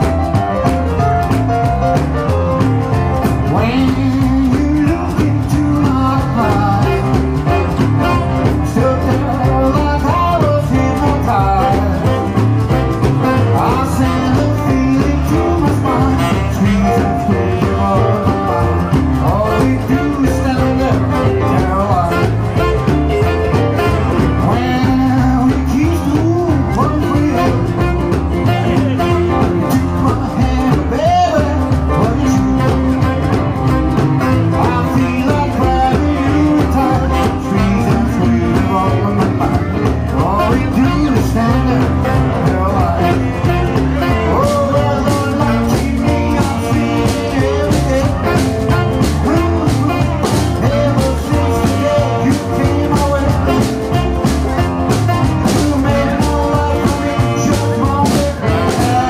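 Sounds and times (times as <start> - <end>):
man singing: 0.0 - 59.0
rock and roll band playing: 0.0 - 59.0
saxophone: 0.0 - 59.0.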